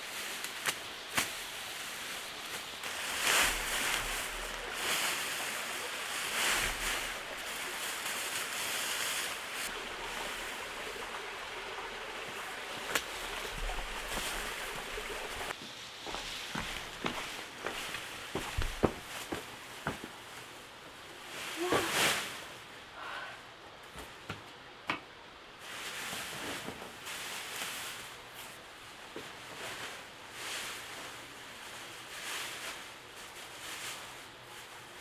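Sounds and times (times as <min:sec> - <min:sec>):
rain and wind in forest: 0:00.0 - 0:35.0.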